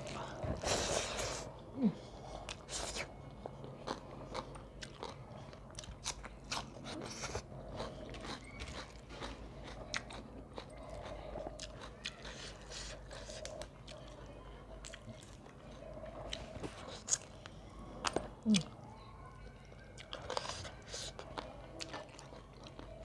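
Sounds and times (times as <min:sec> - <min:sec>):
close chewing with wet mouth clicks: 0:02.4 - 0:18.8, 0:19.5 - 0:23.0.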